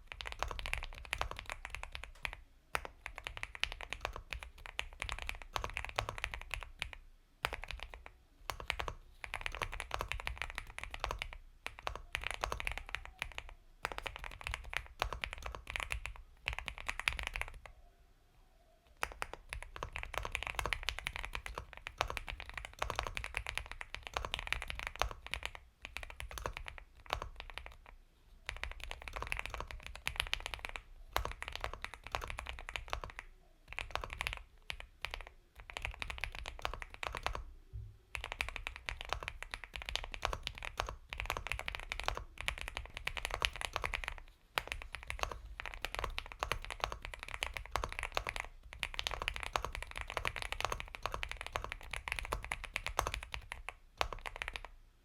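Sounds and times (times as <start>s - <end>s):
mechanical keyboard typing: 0.0s - 17.7s, 18.9s - 37.5s, 38.1s - 54.8s.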